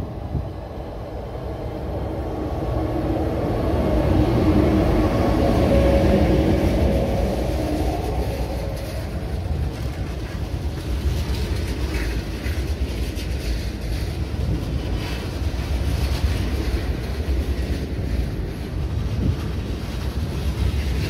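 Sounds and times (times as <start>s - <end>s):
electric locomotive hum: 0.0s - 21.0s
train wheels rumbling on rails: 0.0s - 21.0s.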